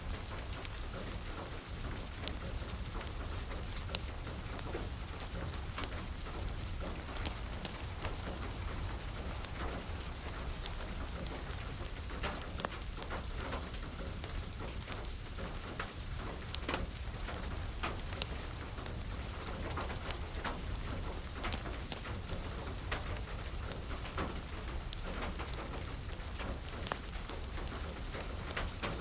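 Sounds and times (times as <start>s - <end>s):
steady rain: 0.0s - 29.0s
wood fire crackling: 0.0s - 29.0s.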